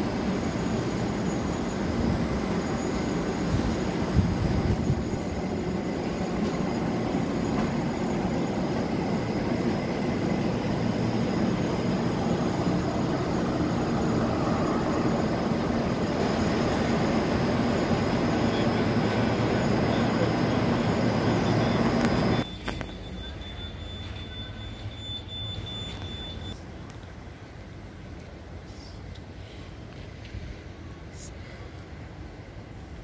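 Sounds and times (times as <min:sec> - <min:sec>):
faint high steady tones: 0:00.0 - 0:26.6
train wheels rumbling on rail: 0:00.0 - 0:26.6.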